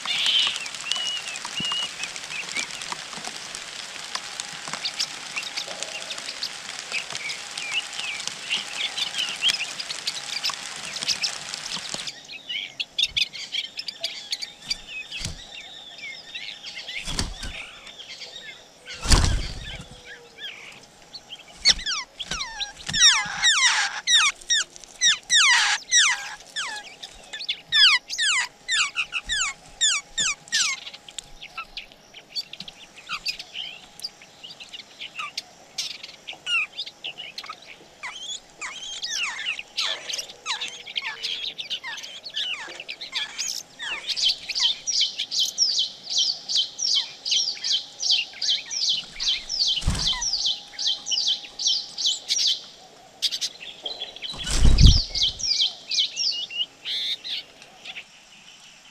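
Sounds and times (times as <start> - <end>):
nestlings begging chirps: 0.0 - 57.4
steady hiss: 0.0 - 58.9.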